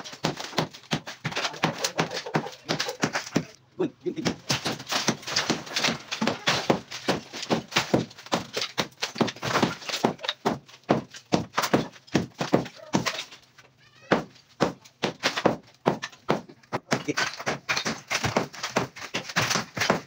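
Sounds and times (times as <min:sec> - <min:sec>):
hammer chipping concrete wall: 0:00.0 - 0:20.0.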